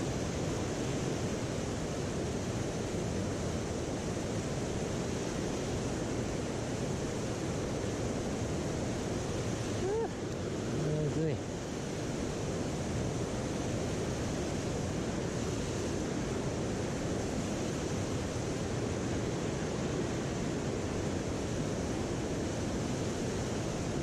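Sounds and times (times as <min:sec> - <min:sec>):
stream water rushing over rocks: 0:00.0 - 0:24.0.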